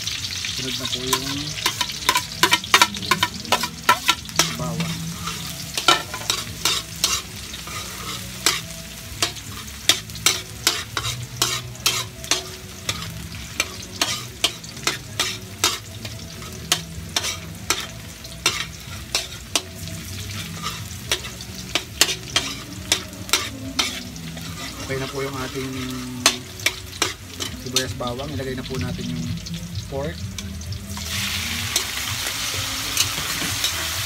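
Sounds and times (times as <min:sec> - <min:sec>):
food sizzling in oil: 0:00.0 - 0:34.0
metal spatula scraping wok: 0:00.2 - 0:29.6, 0:30.4 - 0:34.0.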